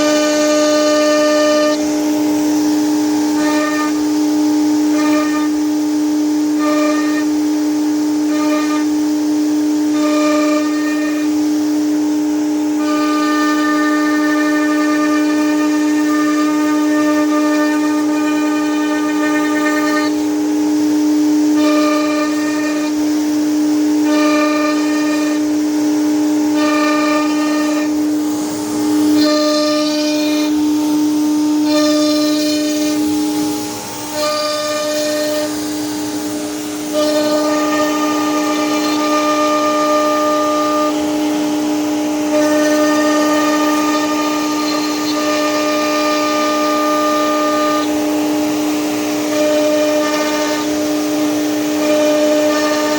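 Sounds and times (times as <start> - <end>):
cnc machine motor whine: 0.0 - 52.9
pulsing high tone: 0.0 - 52.9.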